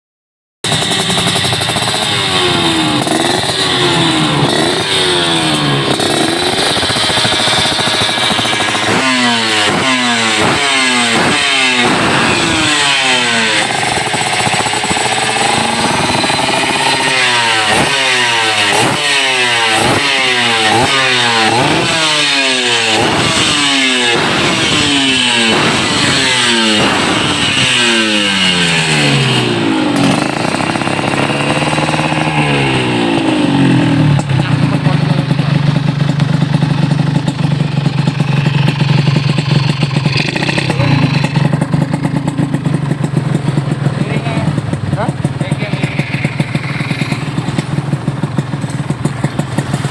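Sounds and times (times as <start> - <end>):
two-stroke motorcycle engine revving: 0.6 - 49.9.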